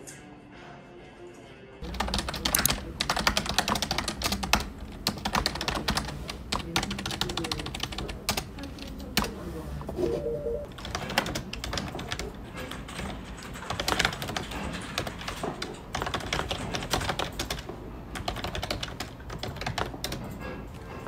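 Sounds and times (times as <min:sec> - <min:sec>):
computer keyboard typing: 0:01.8 - 0:09.4, 0:10.2 - 0:20.6.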